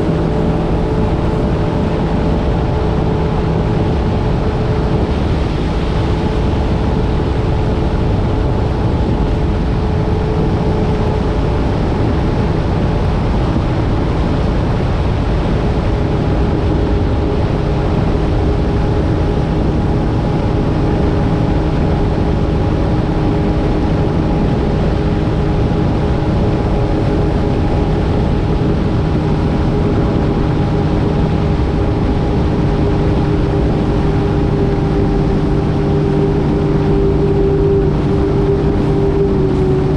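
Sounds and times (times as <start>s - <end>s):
jet ski engine running: 0.0s - 39.9s
rushing water noise: 0.0s - 39.9s.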